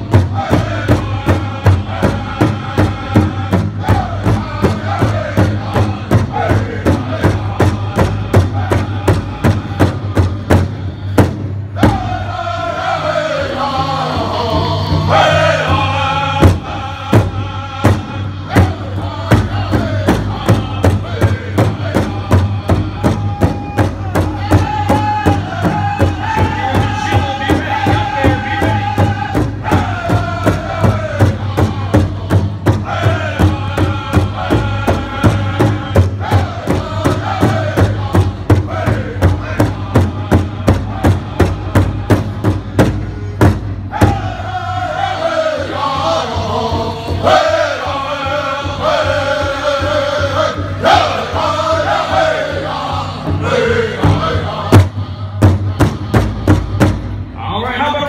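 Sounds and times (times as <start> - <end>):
big drum steady beat: 0.0 - 12.4, 14.6 - 57.4
group singing together: 0.0 - 57.4.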